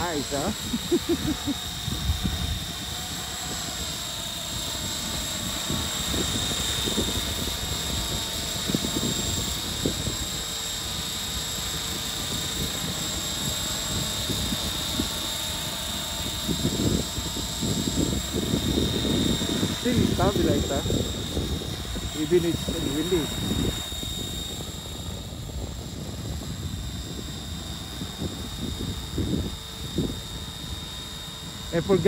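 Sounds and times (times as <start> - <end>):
rc helicopter whine: 0.0 - 32.0
wind buffeting microphone: 0.0 - 32.0.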